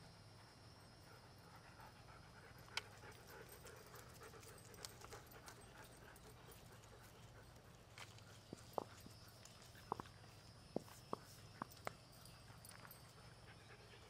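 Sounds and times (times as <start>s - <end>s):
dogs panting: 0.3s - 14.0s.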